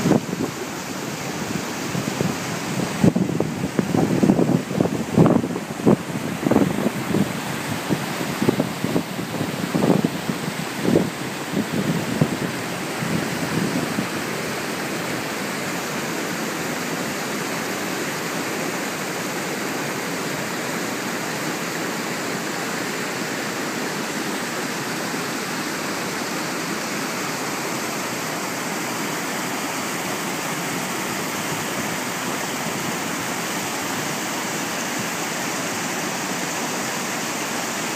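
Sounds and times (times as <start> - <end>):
water rushing over rocks: 0.0 - 37.9.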